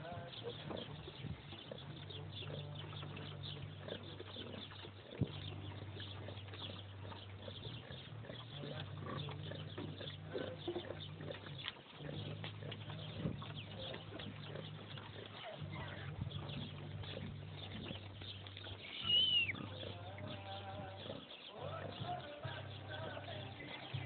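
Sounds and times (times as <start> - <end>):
pigs rooting: 0.0 - 24.0
pigs squeaking: 0.0 - 24.0.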